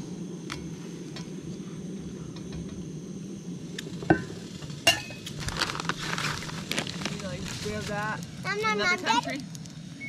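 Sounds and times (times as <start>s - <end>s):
crackling hiss: 0.0s - 10.0s
gas stove burner roaring: 0.0s - 10.0s.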